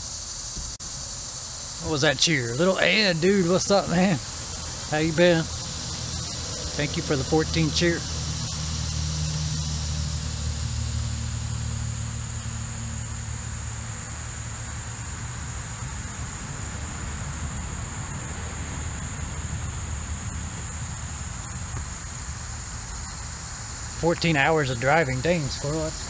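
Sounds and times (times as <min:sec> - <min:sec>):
high-pitched insect drone: 0:00.0 - 0:26.0
low hum: 0:00.0 - 0:26.0.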